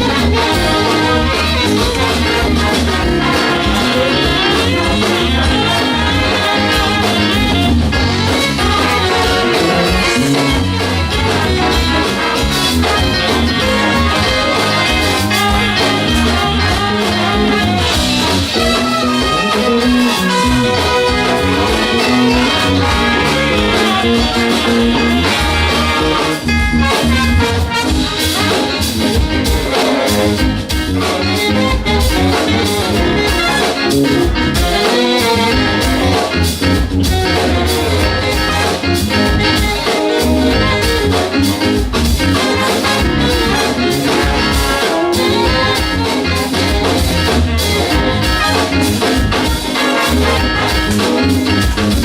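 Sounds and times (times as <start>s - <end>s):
big band instrumental: 0.0s - 52.0s
brass section: 0.0s - 52.0s.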